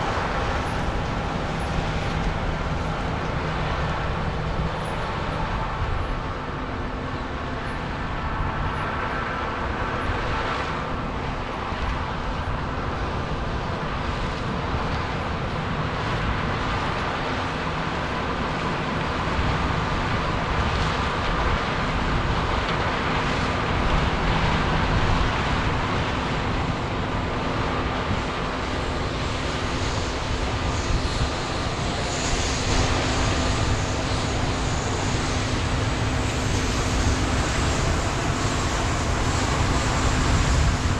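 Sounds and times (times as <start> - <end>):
diesel farm machinery running: 0.0 - 40.9.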